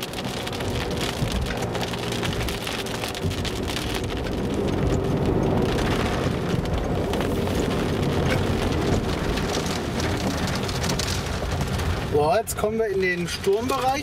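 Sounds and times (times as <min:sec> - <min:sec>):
raindrops ticking on car: 0:00.0 - 0:14.0
road and engine noise: 0:00.0 - 0:14.0.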